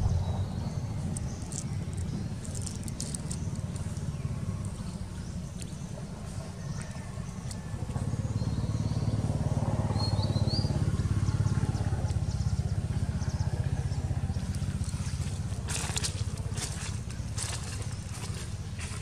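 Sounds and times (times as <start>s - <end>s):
bird chirping: 0.0s - 19.0s
small engine running: 0.0s - 19.0s.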